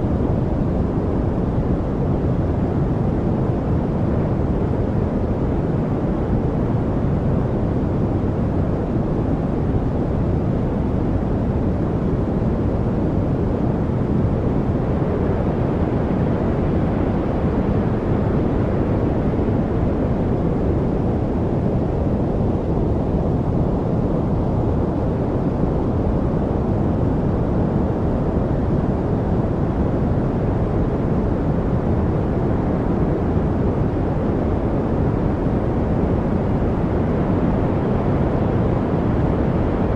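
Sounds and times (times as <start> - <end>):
deep rumbling steady noise: 0.0 - 39.9.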